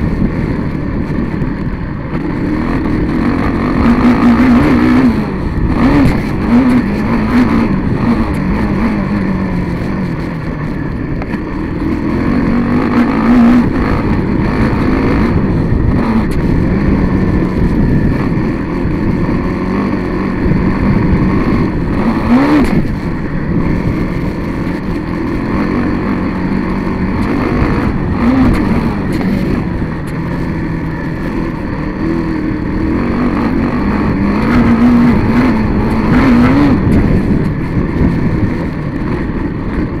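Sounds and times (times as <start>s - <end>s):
dirt bike engine revving: 0.0s - 40.0s
rough rush of noise: 0.0s - 40.0s.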